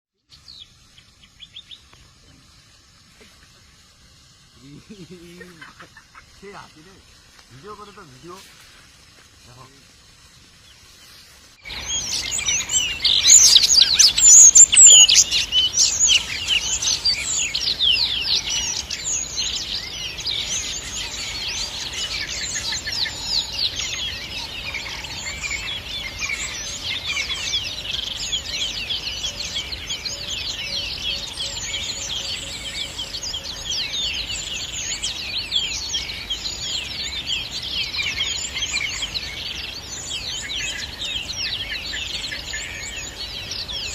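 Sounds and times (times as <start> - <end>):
chorus of small birds chirping: 0.2 - 43.9.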